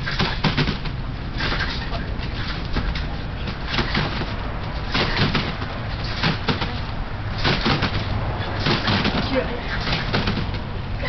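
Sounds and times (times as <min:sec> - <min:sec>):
steady low rumble: 0:00.0 - 0:11.0
trampoline mat creaking: 0:00.0 - 0:11.0
trampoline springs squeaking: 0:00.0 - 0:11.0.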